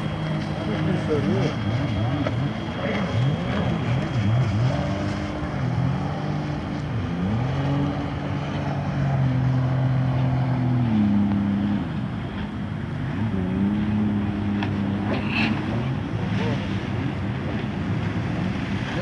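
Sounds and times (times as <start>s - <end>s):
powerboat engines droning: 0.0s - 19.0s.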